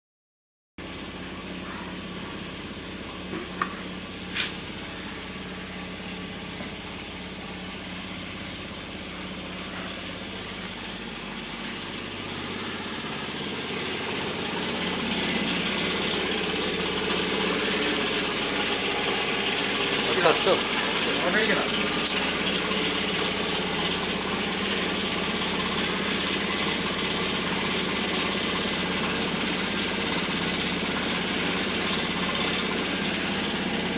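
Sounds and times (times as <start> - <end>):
air compressor running: 0.8 - 33.9.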